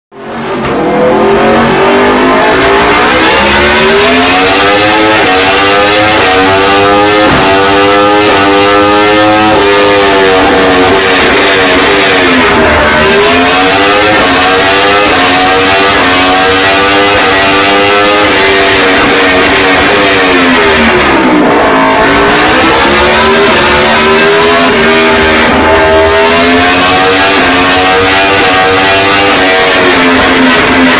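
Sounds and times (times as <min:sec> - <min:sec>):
motorcycle engine revving: 0:00.2 - 0:30.9.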